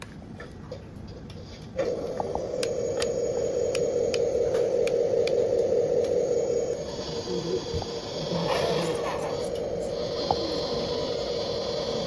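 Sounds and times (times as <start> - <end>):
small electric motor humming: 1.8 - 12.0.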